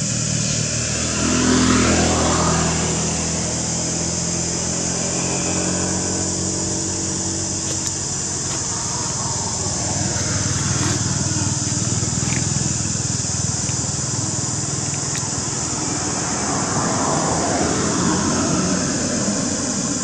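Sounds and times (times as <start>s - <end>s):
high hiss: 0.0s - 20.0s
vehicle engine running: 0.0s - 20.0s.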